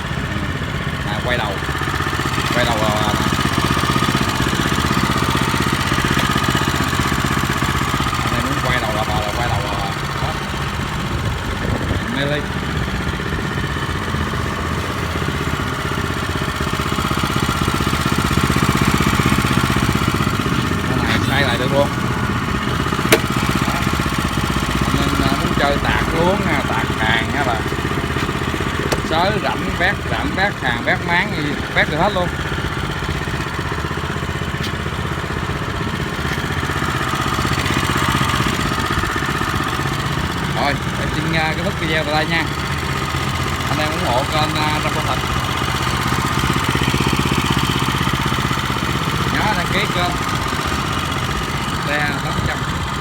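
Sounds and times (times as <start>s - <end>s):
tiller engine running: 0.0s - 53.0s.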